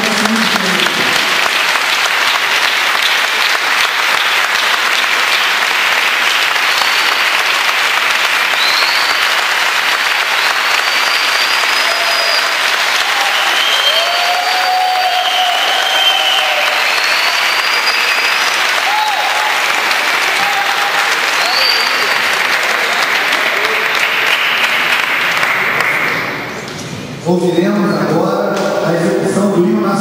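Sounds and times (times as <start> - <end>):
large audience applauding: 0.0 - 26.6.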